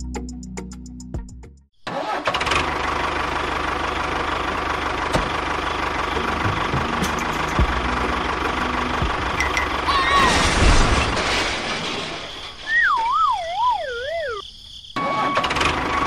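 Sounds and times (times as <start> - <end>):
tractor engine rumbling: 1.8 - 16.0.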